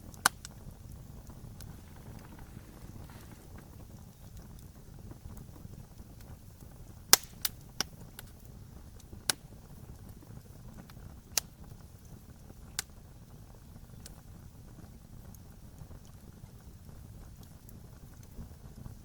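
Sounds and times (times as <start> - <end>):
low steady rumble: 0.0 - 19.0
sharp pops of fire: 0.0 - 19.0
wood fire crackling: 0.0 - 19.0.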